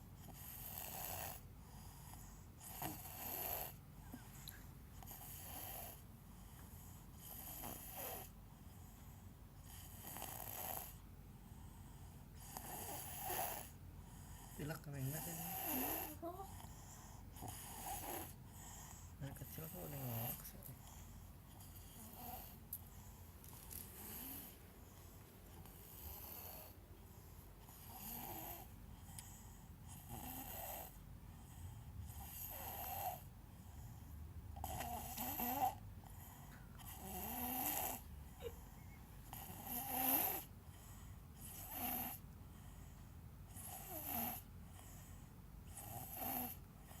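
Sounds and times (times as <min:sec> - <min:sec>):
small child snoring: 0:00.0 - 0:23.1, 0:23.7 - 0:26.8, 0:27.6 - 0:42.8, 0:43.5 - 0:47.0.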